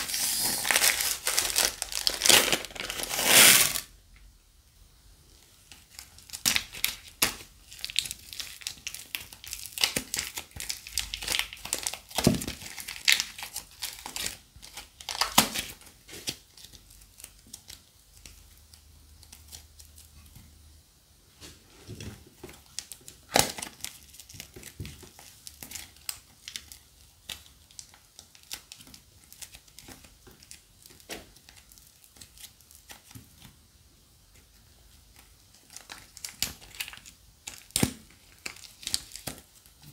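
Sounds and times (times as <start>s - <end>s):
plastic crinkling and crackling: 0.0s - 3.9s, 5.6s - 20.4s, 21.8s - 33.6s, 34.3s - 39.9s.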